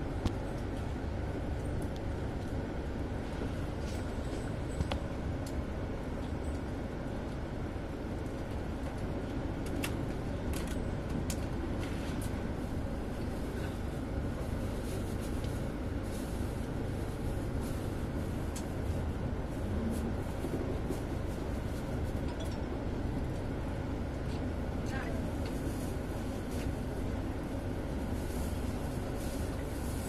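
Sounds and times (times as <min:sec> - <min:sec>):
train carriage rumbling: 0:00.0 - 0:30.0.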